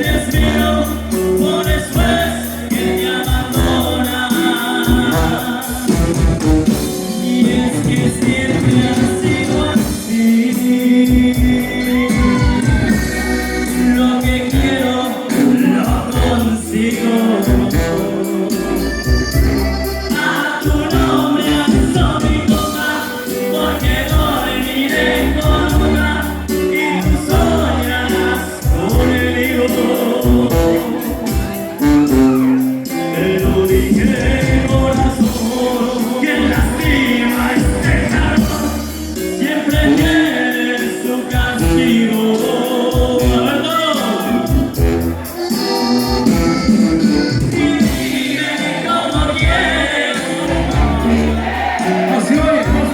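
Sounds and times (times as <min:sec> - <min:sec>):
banda music playing: 0:00.0 - 0:52.9.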